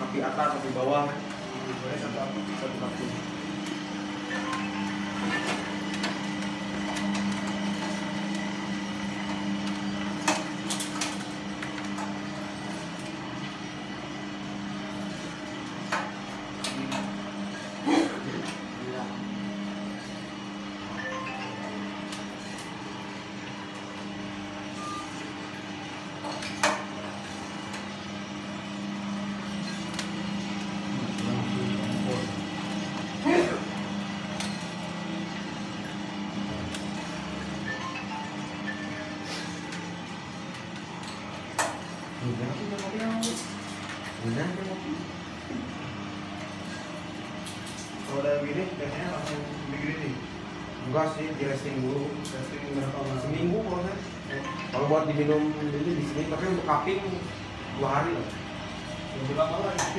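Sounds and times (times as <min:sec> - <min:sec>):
electric motor humming: 0:00.0 - 0:54.3.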